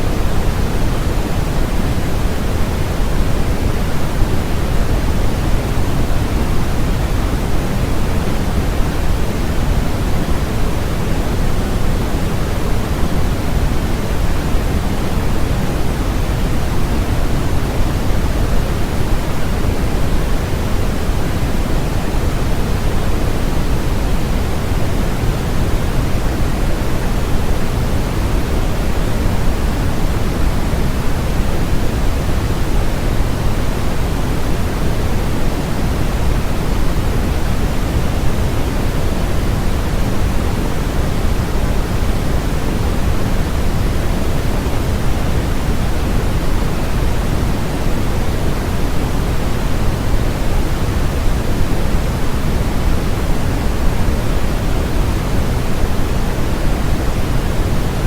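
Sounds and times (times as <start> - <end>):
deep white noise hiss: 0.0 - 58.0.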